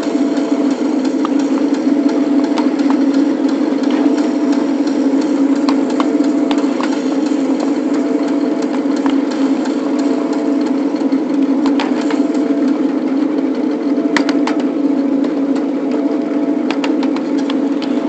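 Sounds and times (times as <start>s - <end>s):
miniature locomotive mechanical drone: 0.0s - 18.0s.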